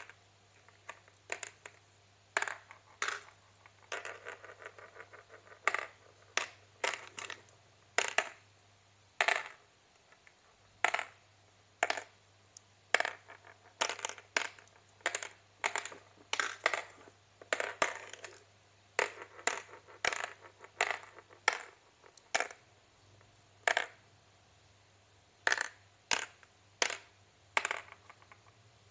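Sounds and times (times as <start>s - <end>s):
marbles clicking into plastic cups: 0.0s - 8.5s, 9.2s - 24.1s, 25.4s - 28.9s.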